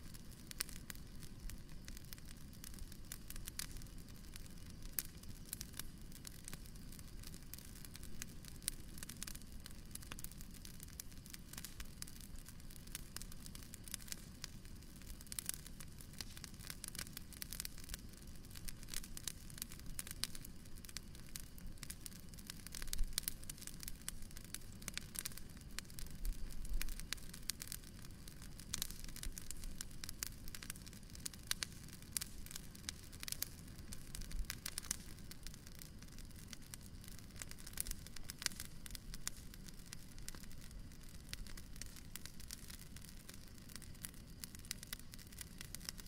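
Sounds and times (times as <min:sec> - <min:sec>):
bonfire crackling: 0:00.0 - 0:46.0.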